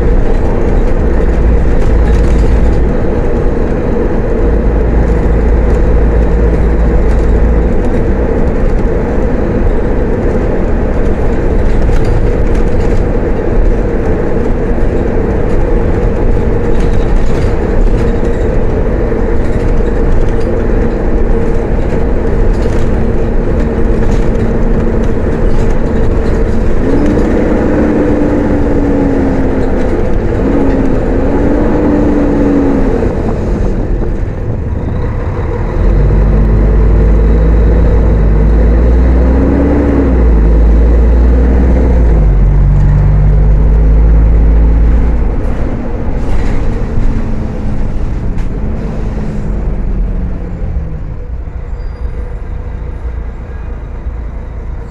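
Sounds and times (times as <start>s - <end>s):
gearbox whine: 0.0s - 48.7s
bus drivetrain running: 0.0s - 54.9s.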